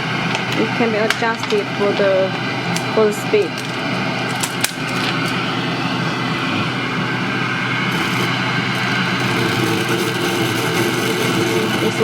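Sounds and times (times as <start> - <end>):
fume extractor fan running: 0.0 - 12.0.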